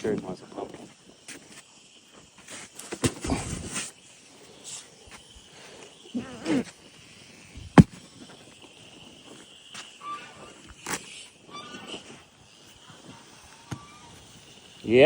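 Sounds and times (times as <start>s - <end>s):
faint high insect drone: 0.0s - 15.0s.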